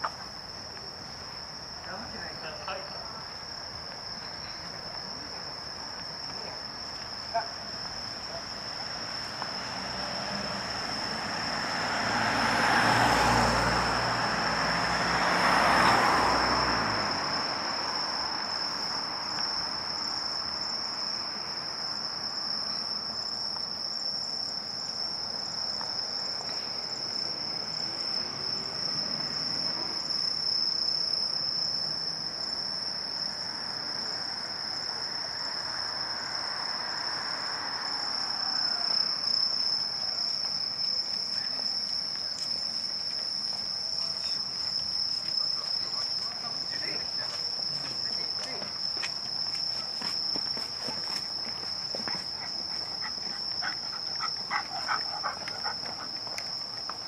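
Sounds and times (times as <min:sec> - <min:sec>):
crickets trilling: 0:00.0 - 0:57.0
distant city traffic hum: 0:00.0 - 0:57.0.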